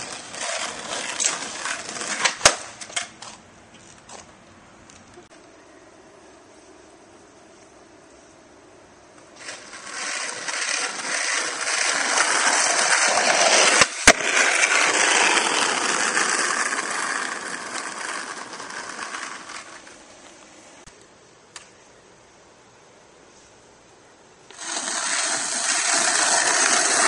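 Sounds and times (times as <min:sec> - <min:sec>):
skateboard wheels rolling on asphalt: 0:00.0 - 0:05.6, 0:06.4 - 0:20.9, 0:24.5 - 0:27.0.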